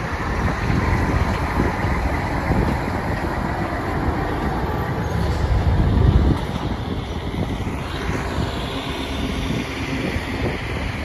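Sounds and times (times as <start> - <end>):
tires and trailer rumbling: 0.0 - 11.0
truck engine running: 0.0 - 11.0.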